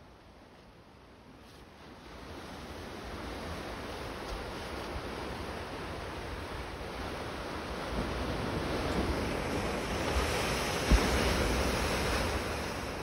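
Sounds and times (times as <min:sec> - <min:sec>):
ocean surf washing over rocks: 0:01.8 - 0:13.0.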